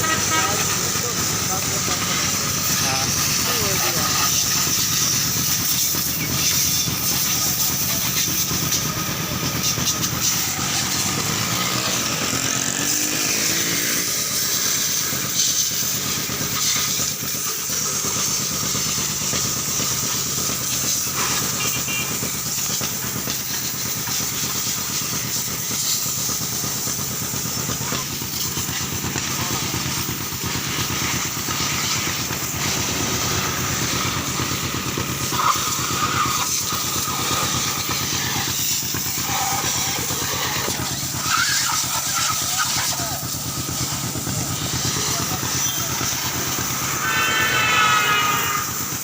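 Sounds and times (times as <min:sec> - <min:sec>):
pressure washer water spray hiss: 0:00.0 - 0:49.0.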